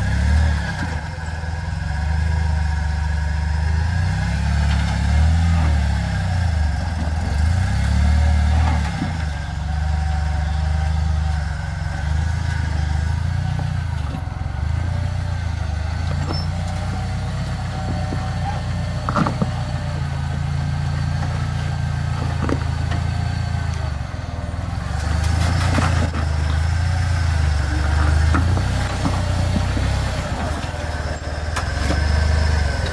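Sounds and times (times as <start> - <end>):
engine running at low revs: 0.0 - 32.9.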